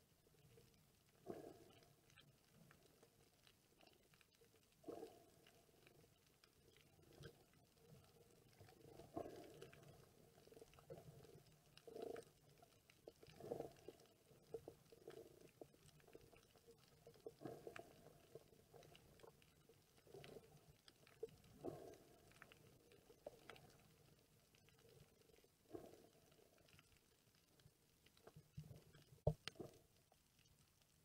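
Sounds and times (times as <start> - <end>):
muffled underwater water movement: 0.0 - 31.0
faint clicks: 0.2 - 31.0.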